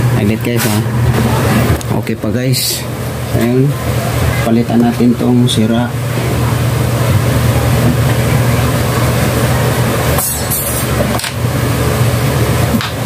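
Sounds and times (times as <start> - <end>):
low mechanical hum: 0.0 - 13.0
noisy background: 0.0 - 13.0.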